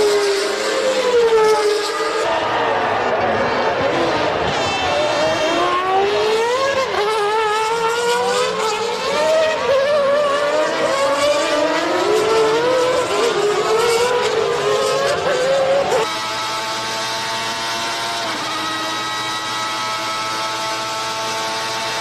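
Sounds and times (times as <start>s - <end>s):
racing car engine full throttle: 0.0s - 22.0s.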